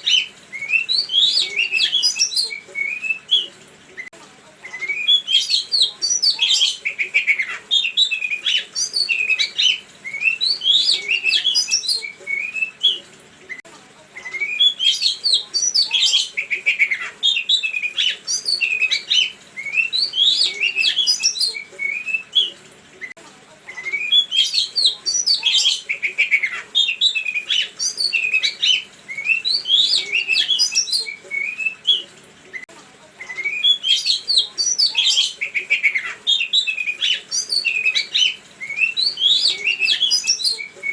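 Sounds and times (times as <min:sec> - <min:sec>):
songbird chirping and whistling: 0:00.0 - 0:13.6, 0:14.2 - 0:23.1, 0:23.7 - 0:40.9.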